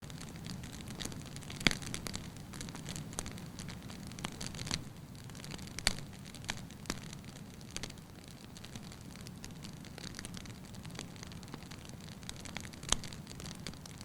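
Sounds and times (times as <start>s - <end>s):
logs crackling and popping: 0.0s - 14.0s
low rumble of flame: 0.0s - 14.0s.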